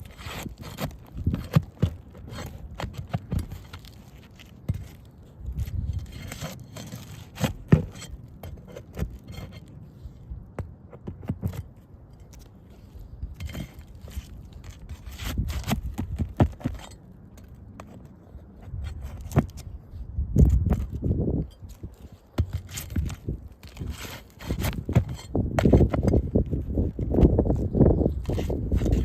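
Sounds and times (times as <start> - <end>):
tool scraping shingles: 0.0 - 29.0.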